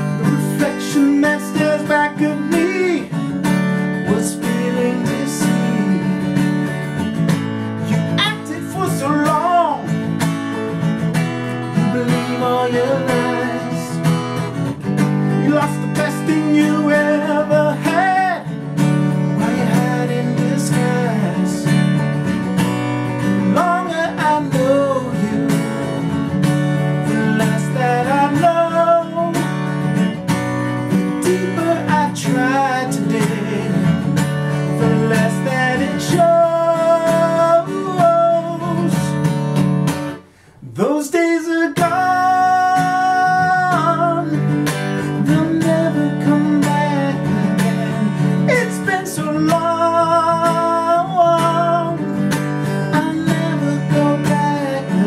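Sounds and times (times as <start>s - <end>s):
man singing: 0.0s - 6.9s, 7.8s - 10.2s, 11.4s - 22.2s, 23.0s - 30.0s, 30.9s - 39.6s, 40.6s - 55.0s
strummed acoustic guitar: 0.0s - 55.0s.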